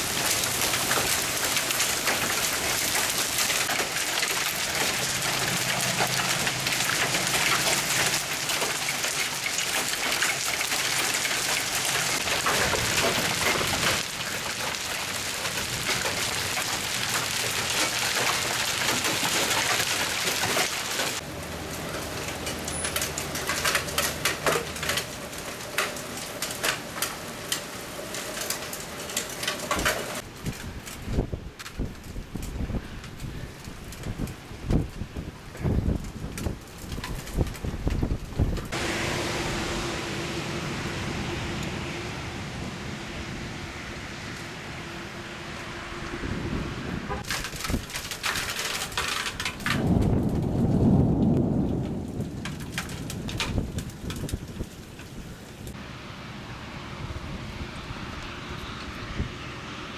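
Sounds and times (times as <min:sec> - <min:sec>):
hail and heavy rain on pavement: 0:00.0 - 0:39.7, 0:47.1 - 0:55.8.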